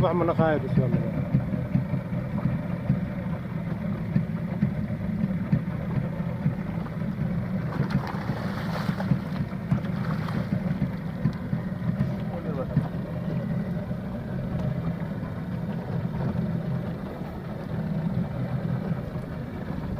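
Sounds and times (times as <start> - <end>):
boat engine humming: 0.0 - 19.9.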